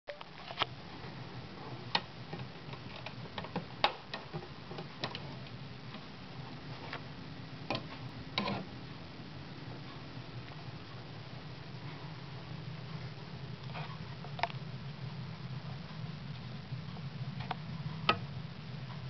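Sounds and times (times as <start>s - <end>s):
steady low hum: 0.1s - 19.0s.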